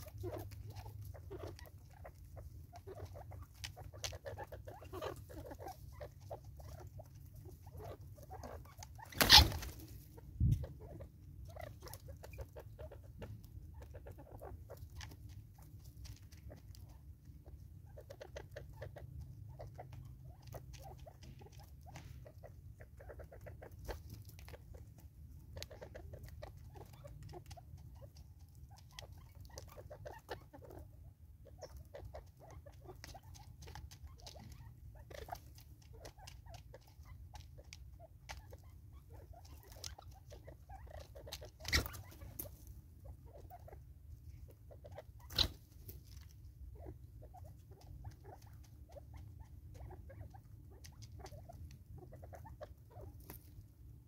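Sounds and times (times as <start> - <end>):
birds pecking at plastic feeder: 0.0 - 54.0.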